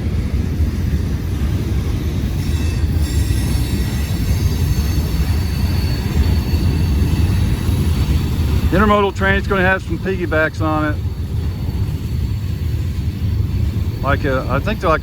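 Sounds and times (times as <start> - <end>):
train cars rumbling past: 0.0 - 15.0
steel wheel squeal: 0.5 - 15.0.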